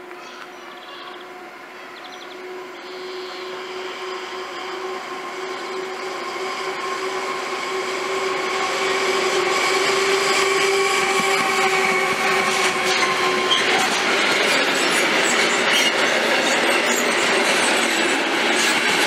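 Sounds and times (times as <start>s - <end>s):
train wheels rushing on rails: 0.0s - 19.0s.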